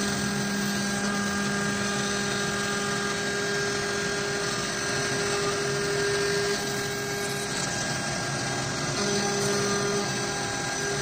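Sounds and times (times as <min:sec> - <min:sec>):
router bit cutting wood: 0:00.0 - 0:11.0
router high-speed whine: 0:00.0 - 0:11.0.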